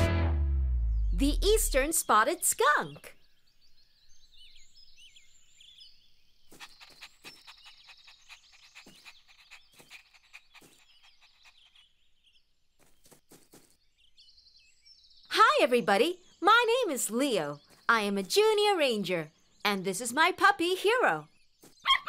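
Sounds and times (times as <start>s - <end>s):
high bird chirps: 1.7s - 22.0s.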